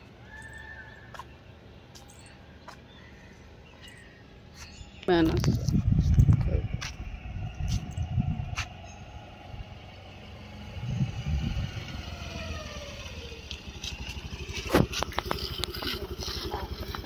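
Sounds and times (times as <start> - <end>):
scooter engine approaching and idling: 0.0 - 17.0.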